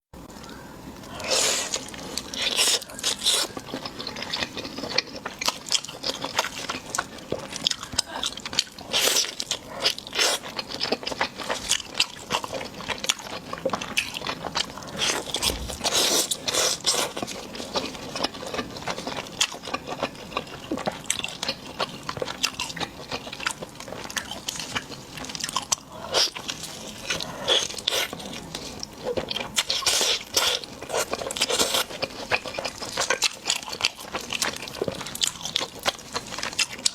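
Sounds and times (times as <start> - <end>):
crunchy food being chewed: 0.3 - 36.9.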